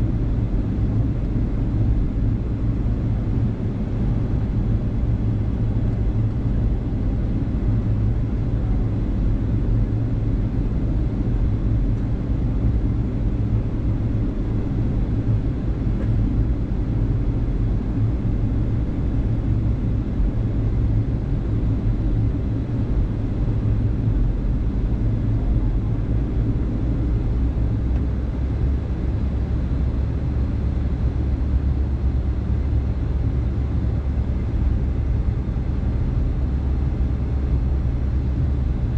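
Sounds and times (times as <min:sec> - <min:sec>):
airplane engine drone in flight: 0:00.0 - 0:38.9.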